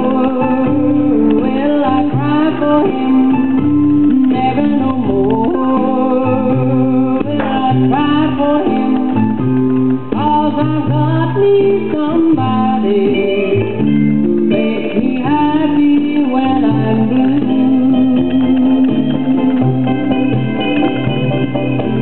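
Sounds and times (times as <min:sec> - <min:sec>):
woman singing pop song: 0:00.0 - 0:20.3
guitar accompaniment: 0:00.0 - 0:22.0.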